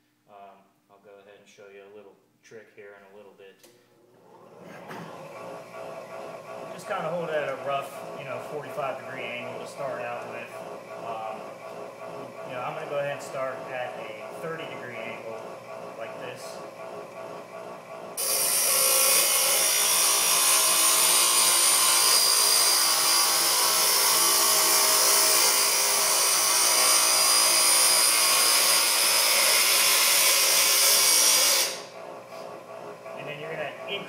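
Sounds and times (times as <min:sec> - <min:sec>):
bench grinder grinding steel: 0:04.3 - 0:34.0.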